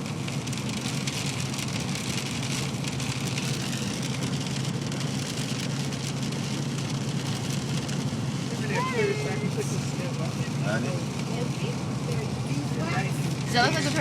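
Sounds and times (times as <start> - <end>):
car low hum: 0.0 - 14.0
rain on a car roof: 0.0 - 14.0.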